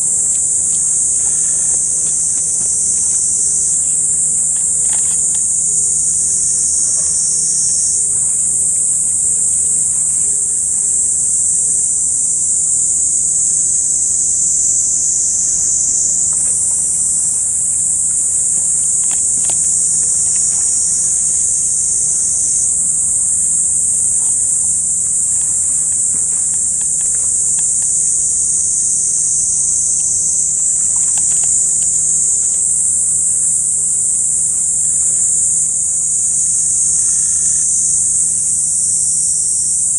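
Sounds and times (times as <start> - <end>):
cicadas chorus: 0.0 - 39.9
faint low hum: 0.0 - 39.9.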